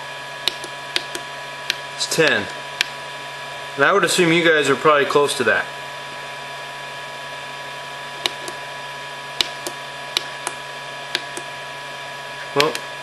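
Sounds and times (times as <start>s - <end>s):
printer hum: 0.0s - 13.0s.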